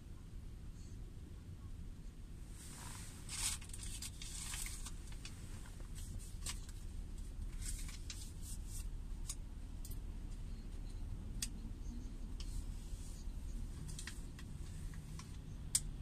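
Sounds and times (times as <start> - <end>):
car engine idling rumble: 0.0 - 16.0.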